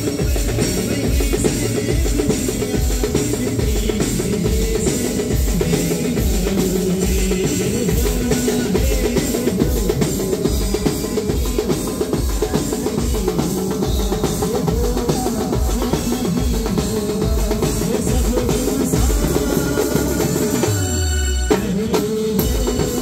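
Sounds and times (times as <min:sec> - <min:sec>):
band music: 0:00.0 - 0:23.0
bass drum beat: 0:00.0 - 0:23.0.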